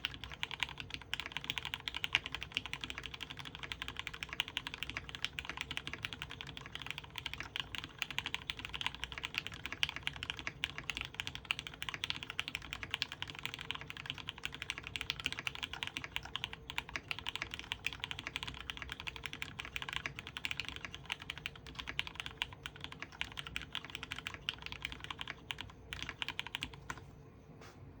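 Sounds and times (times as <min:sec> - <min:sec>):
fast mechanical keyboard typing: 0:00.0 - 0:27.0.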